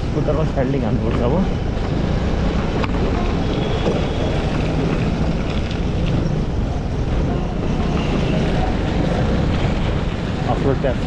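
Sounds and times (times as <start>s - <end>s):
scooter engine hum: 0.0s - 11.0s
tyres on gravel road: 0.0s - 11.0s.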